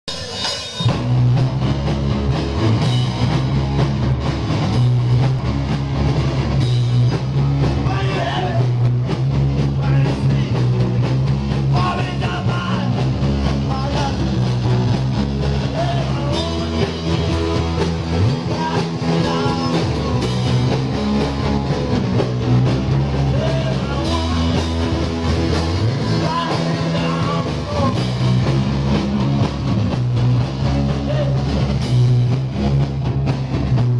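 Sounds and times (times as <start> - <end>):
distorted electric guitars: 0.0 - 33.9
drum kit: 0.0 - 33.9
electric bass: 0.0 - 33.9.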